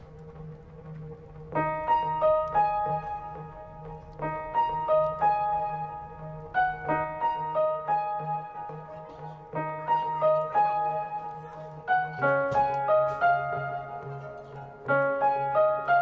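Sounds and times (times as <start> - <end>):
gentle piano melody: 0.0 - 16.0
soft low synth pad: 0.0 - 16.0.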